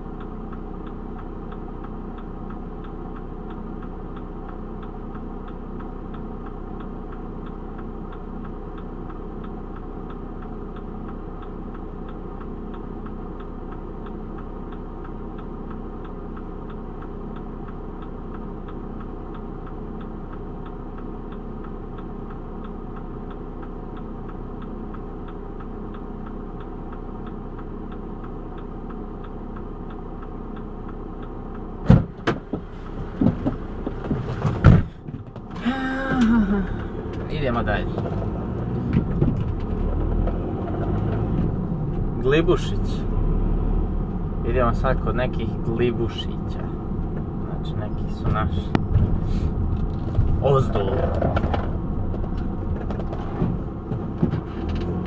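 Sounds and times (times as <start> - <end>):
faint regular ticking: 0.0 - 34.2, 34.9 - 55.0
van engine idling: 0.0 - 55.0.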